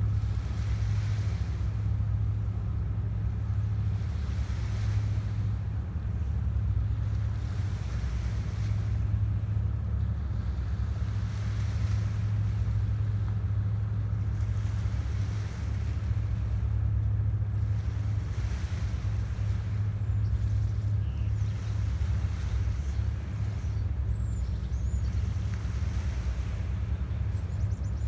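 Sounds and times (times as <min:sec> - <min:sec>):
low rumble: 0:00.0 - 0:28.0
waves lapping on pebbles: 0:00.0 - 0:28.0.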